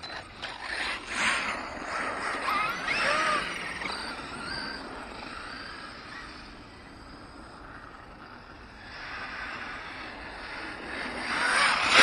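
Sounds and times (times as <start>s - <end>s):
toy truck motor whine: 0.0s - 8.9s, 11.1s - 12.0s.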